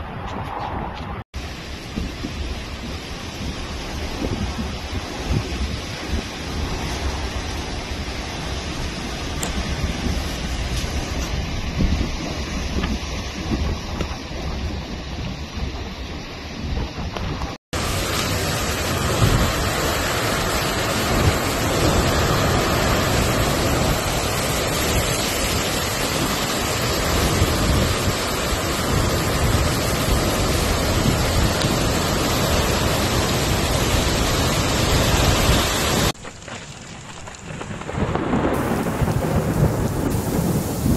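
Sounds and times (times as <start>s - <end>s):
heavy rain pouring: 1.4s - 15.2s, 16.8s - 40.9s.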